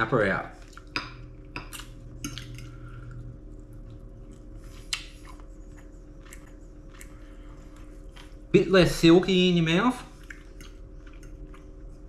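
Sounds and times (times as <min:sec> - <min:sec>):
steady low hum: 0:00.0 - 0:12.0
person chewing: 0:00.6 - 0:08.5, 0:10.1 - 0:12.0.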